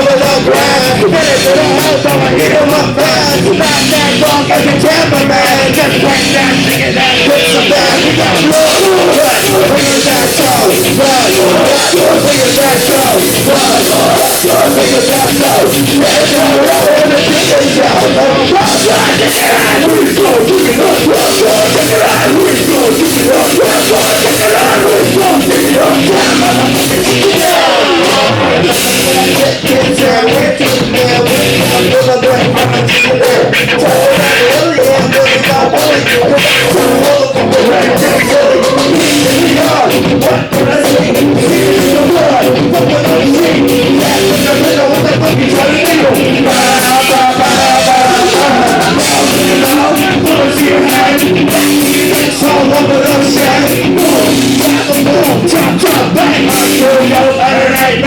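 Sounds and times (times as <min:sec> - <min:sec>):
live rock band playing: 0:00.0 - 0:58.0
yelled vocals: 0:00.0 - 0:58.0.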